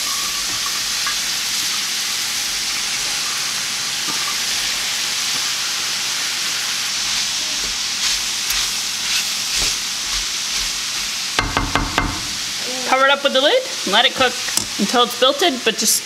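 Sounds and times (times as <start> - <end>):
food sizzling in a skillet: 0.0 - 16.0.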